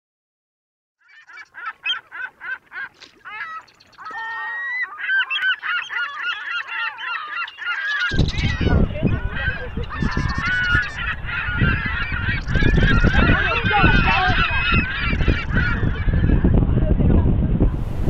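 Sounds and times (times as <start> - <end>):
gull short calls: 1.0 - 16.4
chorus of gulls calling: 1.0 - 17.1.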